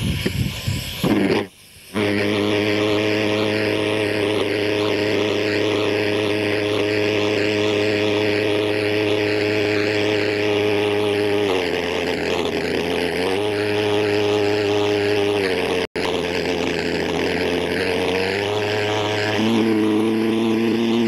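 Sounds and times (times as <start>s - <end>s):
model aircraft engine buzzing: 0.0s - 21.0s.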